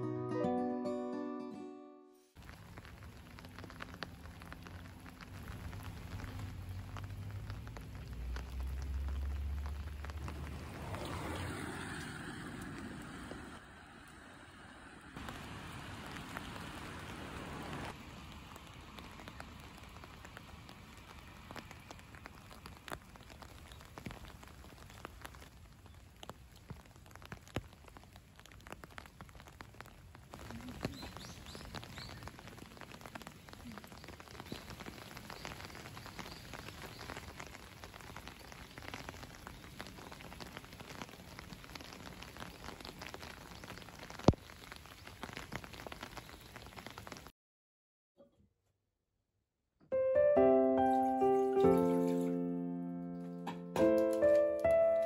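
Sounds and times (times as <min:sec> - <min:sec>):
rain pattering on wet ground: 0:02.3 - 0:47.3, 0:51.6 - 0:52.5, 0:53.2 - 0:55.0.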